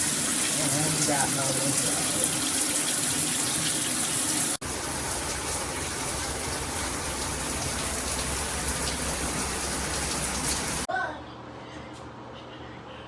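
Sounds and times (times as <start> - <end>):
shower water spraying: 0.0 - 10.9.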